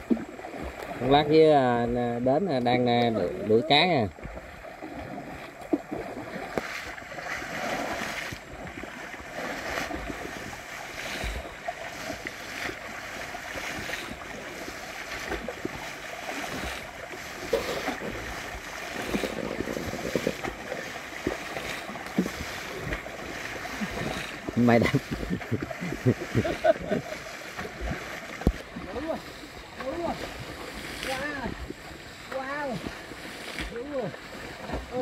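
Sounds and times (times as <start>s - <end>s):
shallow water sloshing: 0.0s - 35.0s.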